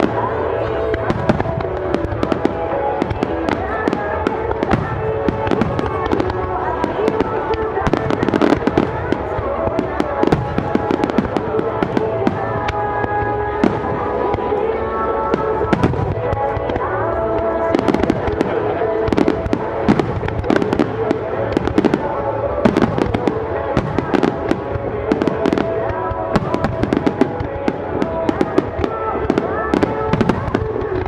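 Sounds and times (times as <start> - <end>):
fireworks bangs and crackles: 0.0 - 31.0
music playing: 0.0 - 31.0.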